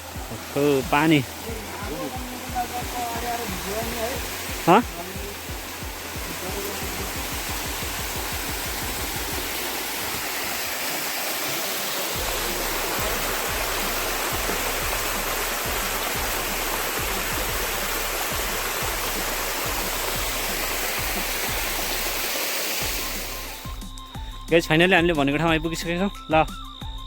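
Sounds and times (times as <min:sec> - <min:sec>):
music bass beat: 0:00.0 - 0:09.7, 0:12.2 - 0:22.2, 0:22.8 - 0:27.0
stream rushing over rocks: 0:00.0 - 0:23.8.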